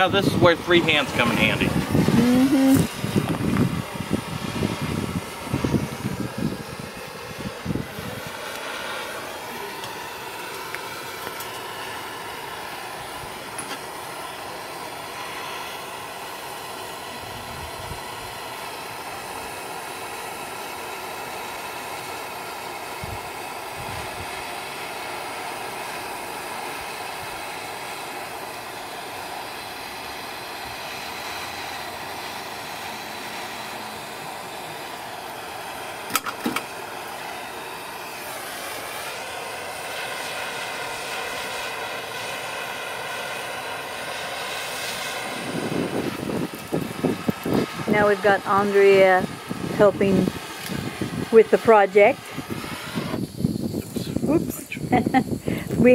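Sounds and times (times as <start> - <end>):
torch flame hissing: 0.0 - 55.9.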